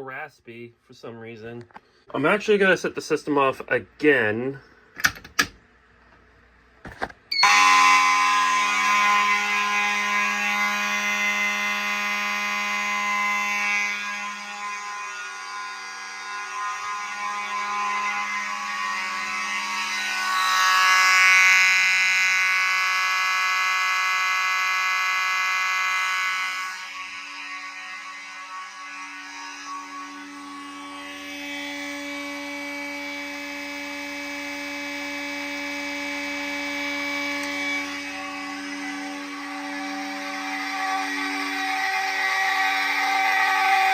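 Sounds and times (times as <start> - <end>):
fire alarm horns: 7.3 - 43.9.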